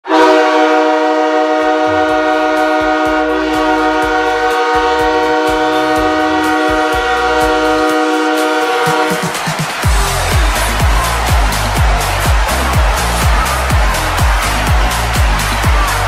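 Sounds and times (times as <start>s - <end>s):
goal horn chord: 0.0s - 16.0s
bass and drum beat: 1.6s - 16.0s.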